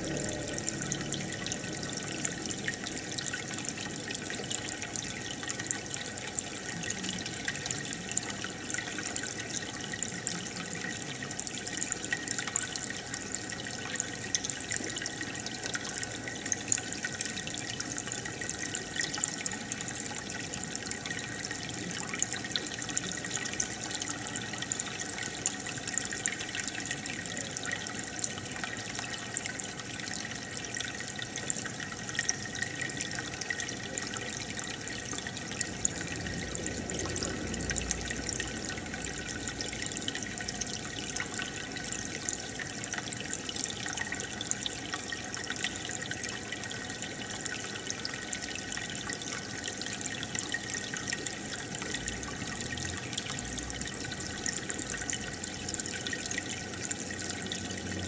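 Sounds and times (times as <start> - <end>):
aquarium water trickling and bubbling: 0.0 - 58.0.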